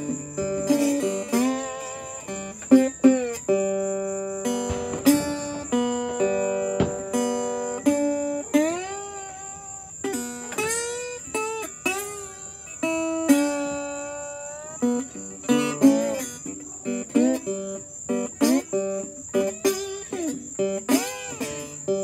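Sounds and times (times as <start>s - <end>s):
bluesy boogie guitar: 0.0s - 22.0s.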